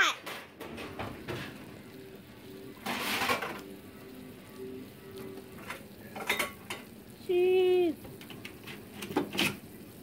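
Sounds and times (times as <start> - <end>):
liquid boiling and bubbling: 0.0 - 10.0.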